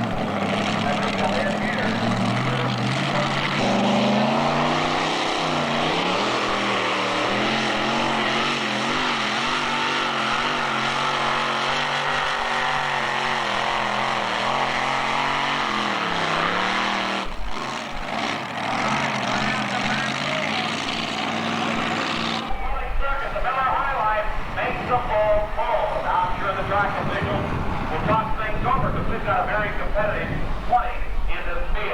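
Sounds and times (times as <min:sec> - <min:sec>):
truck engine revving hard: 0:00.0 - 0:22.6, 0:23.4 - 0:30.7.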